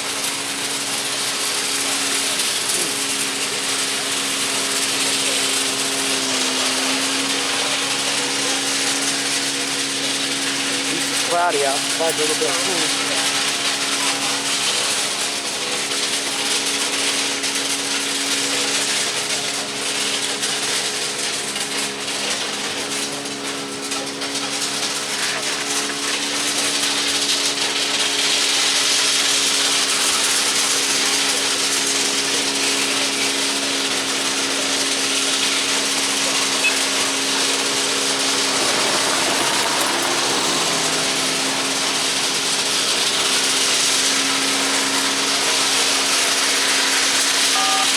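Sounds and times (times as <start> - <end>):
machinery engine humming and hissing: 0.0 - 47.9.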